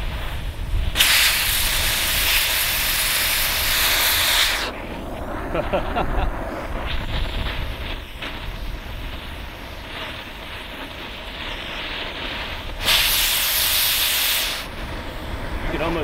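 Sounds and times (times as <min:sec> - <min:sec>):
cutting torch hissing: 0:00.0 - 0:16.0
loud high hiss: 0:00.0 - 0:16.0.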